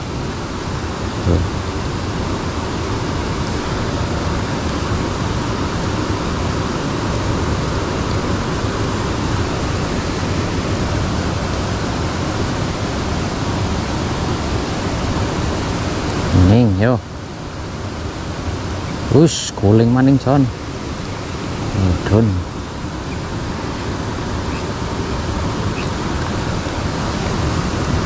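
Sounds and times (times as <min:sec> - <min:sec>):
water rushing in a ditch: 0:00.0 - 0:28.0.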